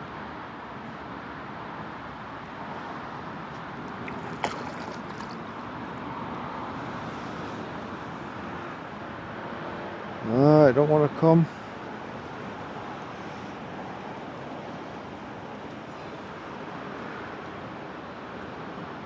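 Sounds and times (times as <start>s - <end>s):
water noise: 0.0s - 19.0s
wind: 0.0s - 19.0s.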